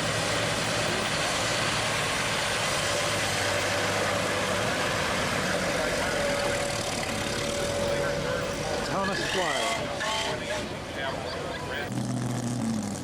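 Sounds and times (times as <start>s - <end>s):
car engine idling: 0.0s - 13.0s
outdoor background noise: 0.0s - 13.0s.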